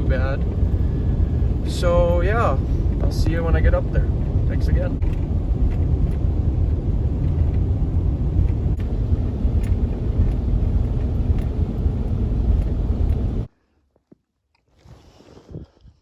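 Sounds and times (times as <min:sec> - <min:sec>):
vehicle road and engine rumble: 0:00.0 - 0:13.5.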